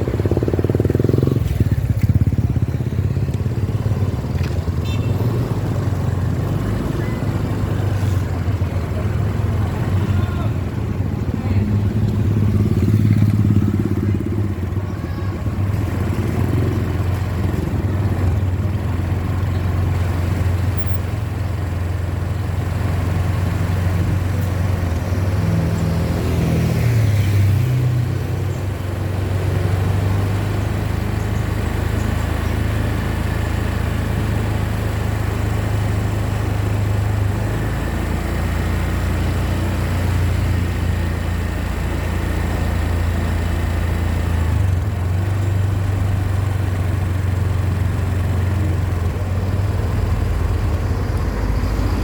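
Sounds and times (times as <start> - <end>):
bus engine droning: 0.0 - 52.0.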